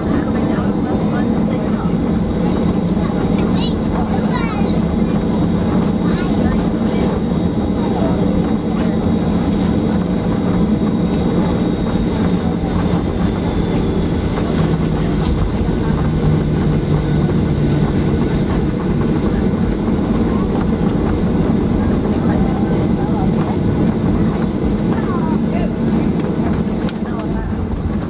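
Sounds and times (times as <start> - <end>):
low rumble of jet engines idling: 0.0 - 28.0
wheels rolling on taxiway: 0.0 - 28.0.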